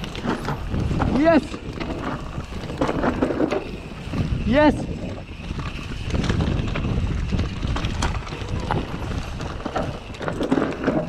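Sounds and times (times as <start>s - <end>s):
bike clicks and rattles: 0.0s - 11.0s
bike tyres rumbling over dirt: 0.0s - 11.0s
wind noise on microphone: 0.0s - 11.0s.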